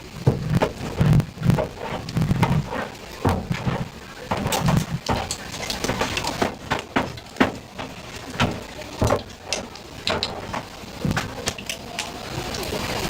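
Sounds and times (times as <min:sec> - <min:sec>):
cooking utensils clattering: 0:00.0 - 0:13.0.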